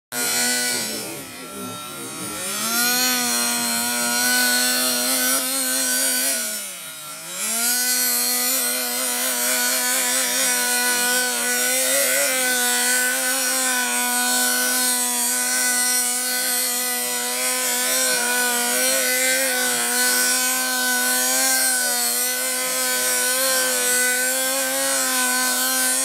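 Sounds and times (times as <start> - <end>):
nitro engine buzzing: 0.1 - 26.0.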